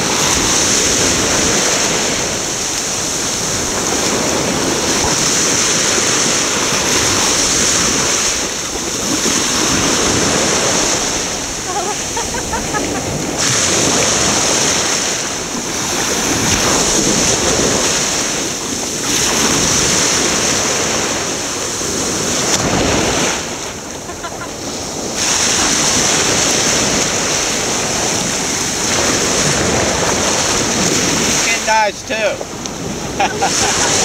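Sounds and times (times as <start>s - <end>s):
wind buffeting microphone: 0.0s - 31.5s, 32.3s - 34.0s
water lapping in shallows: 0.0s - 34.0s.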